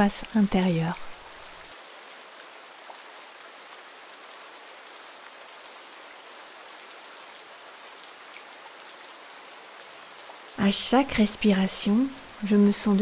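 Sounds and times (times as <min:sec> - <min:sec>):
rain falling in forest: 0:00.0 - 0:13.0.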